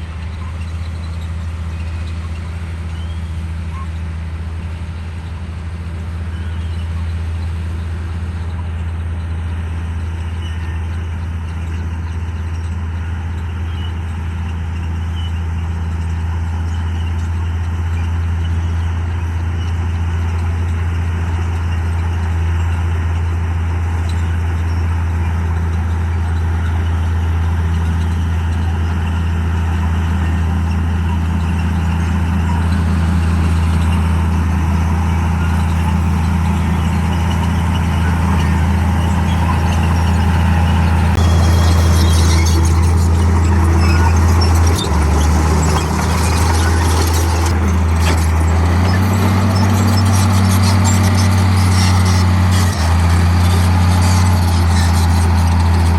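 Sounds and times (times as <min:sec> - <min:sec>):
bulldozer diesel engine droning: 0:00.0 - 0:55.9.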